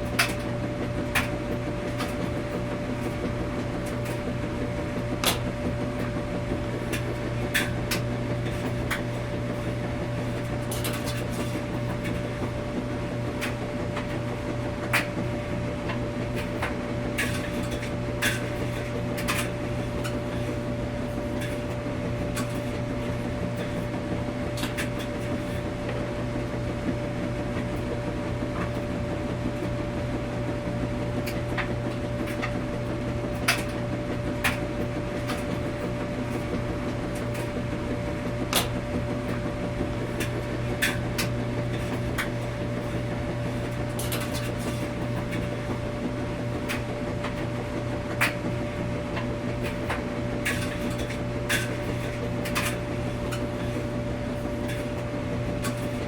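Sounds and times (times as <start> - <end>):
washing machines humming: 0.0 - 56.0.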